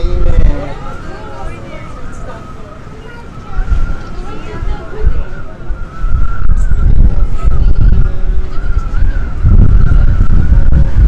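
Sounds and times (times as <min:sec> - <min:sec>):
thin wavering whistle: 0:00.0 - 0:11.0
wind buffeting microphone: 0:00.0 - 0:11.0.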